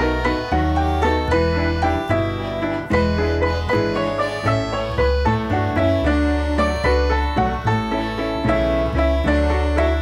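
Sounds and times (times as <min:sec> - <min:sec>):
instrumental music with plucked strings: 0:00.0 - 0:10.0.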